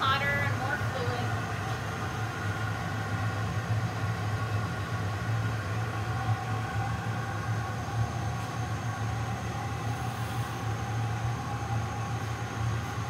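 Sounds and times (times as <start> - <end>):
faint steady whines: 0.0 - 13.0
furnace low drone: 0.0 - 13.0.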